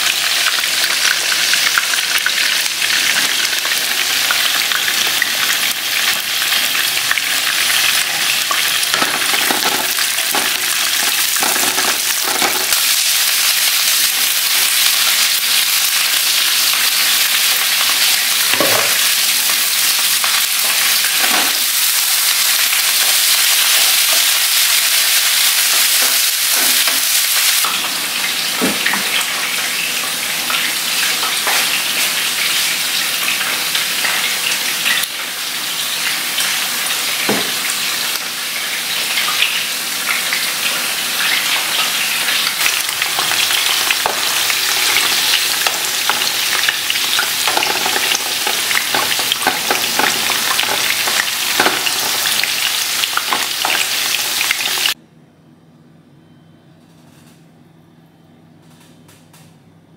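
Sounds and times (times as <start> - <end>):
oil sizzling in frying pans: 0.0 - 55.0.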